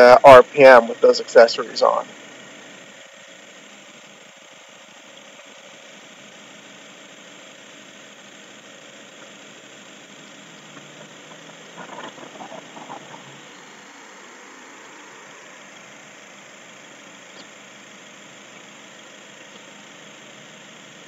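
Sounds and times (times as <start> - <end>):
car engine idling: 0.5 - 21.0.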